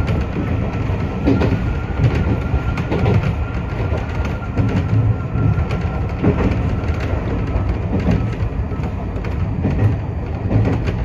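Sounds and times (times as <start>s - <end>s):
train rumble: 0.0s - 11.0s
wheels clicking over rail joints: 0.0s - 11.0s.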